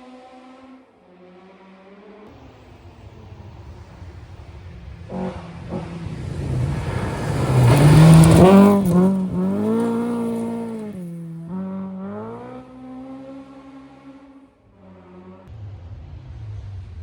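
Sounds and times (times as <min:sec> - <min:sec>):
rally car passing at speed: 0:02.3 - 0:17.0.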